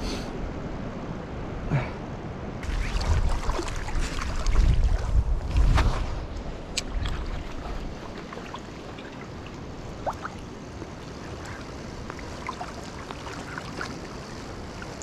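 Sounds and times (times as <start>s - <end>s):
wind rumbling on microphone: 0.0s - 15.0s
stream water flowing: 2.2s - 15.0s.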